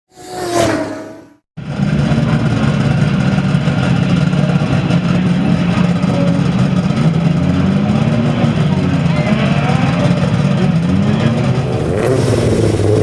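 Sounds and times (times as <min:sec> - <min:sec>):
rally car engine idling: 0:01.6 - 0:13.0.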